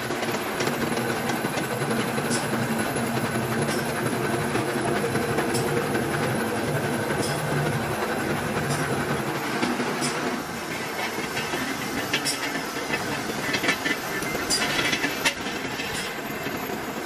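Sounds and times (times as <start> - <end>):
rolling machine clatter and hum: 0.0 - 17.0.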